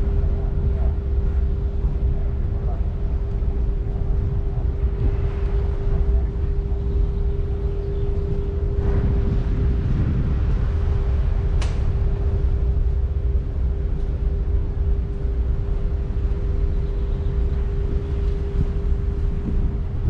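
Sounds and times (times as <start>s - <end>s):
ship low rumble: 0.0s - 20.0s
ship mid-pitched hum: 0.0s - 20.0s
wind buffeting microphone: 0.0s - 20.0s.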